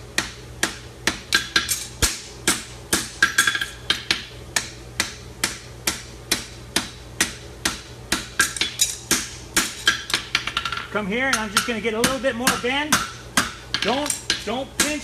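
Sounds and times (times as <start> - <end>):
hammer striking horseshoe on anvil: 0.2 - 15.0.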